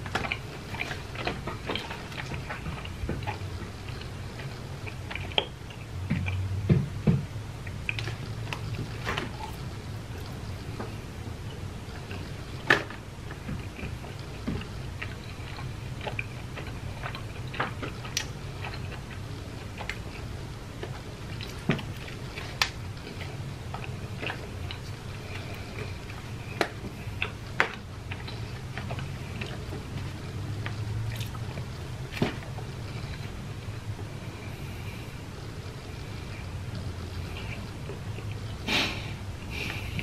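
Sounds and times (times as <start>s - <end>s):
chewing crunchy fried food: 0.0s - 6.5s, 7.5s - 40.0s.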